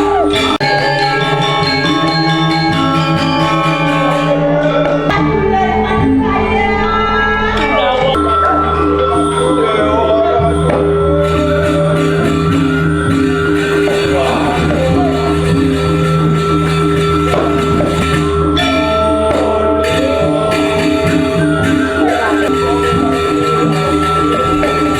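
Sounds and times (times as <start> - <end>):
music with steady beat: 0.0 - 6.7, 7.6 - 24.9.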